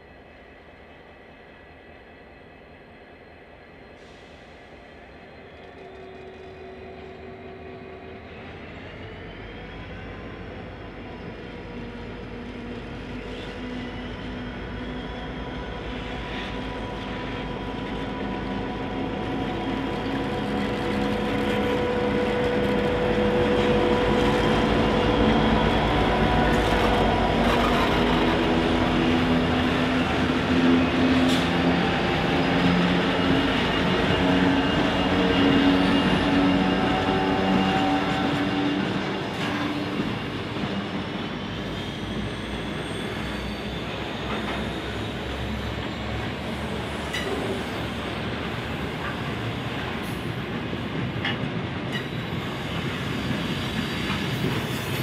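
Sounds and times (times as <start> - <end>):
diesel locomotive engines droning: 0.0 - 55.0.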